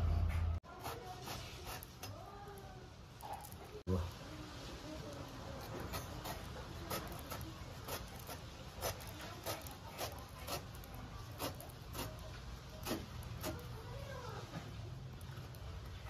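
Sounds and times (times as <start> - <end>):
knife cutting fruit rind: 0.6 - 4.0, 4.8 - 16.0.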